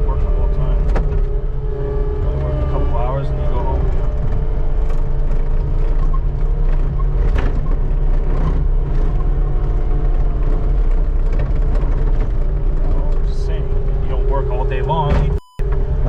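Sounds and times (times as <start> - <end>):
skid steer engine running: 0.0 - 16.0.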